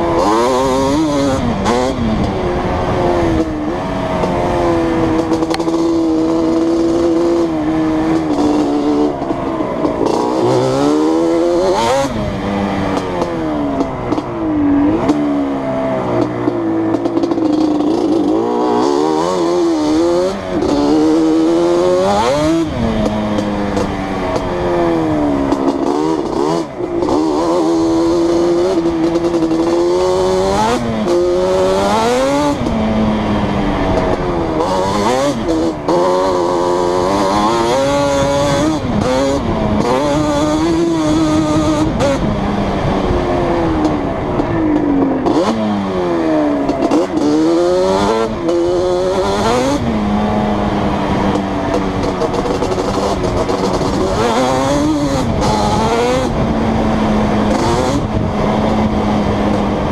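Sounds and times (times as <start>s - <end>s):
two-stroke quad engine revving: 0.0s - 59.9s.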